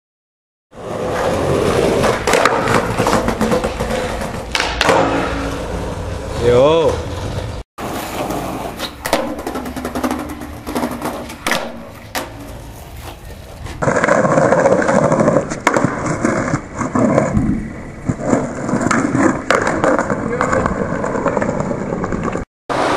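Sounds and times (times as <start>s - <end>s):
skateboard wheels rolling on concrete: 0.7s - 22.9s
skateboard tail clacks: 1.2s - 5.8s, 7.3s - 22.9s.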